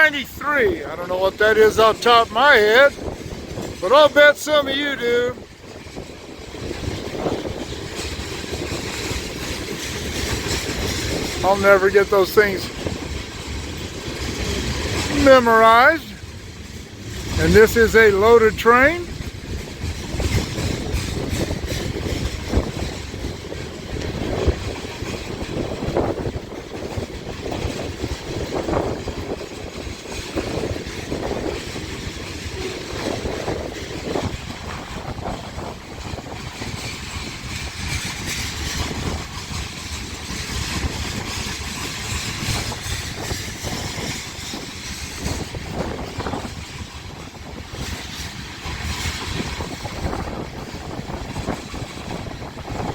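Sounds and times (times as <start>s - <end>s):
train rolling past: 0.0s - 52.9s
wheels clattering on rails: 0.0s - 52.9s.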